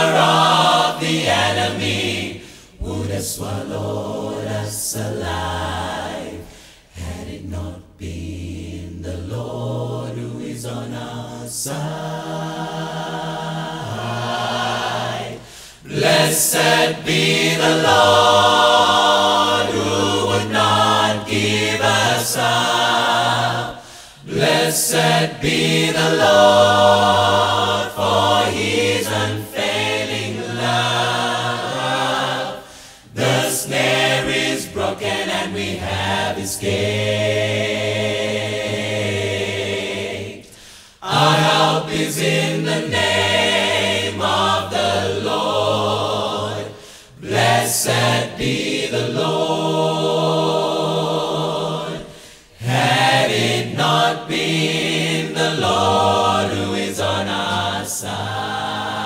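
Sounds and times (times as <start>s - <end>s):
gospel choir singing in harmony: 0.0s - 59.0s.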